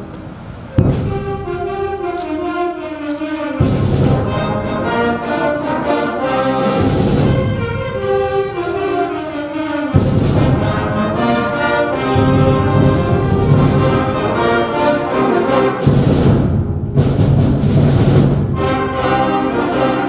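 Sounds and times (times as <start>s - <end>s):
low instruments coming in heavily: 0.0s - 19.1s
wind band playing brass chords: 0.0s - 20.0s.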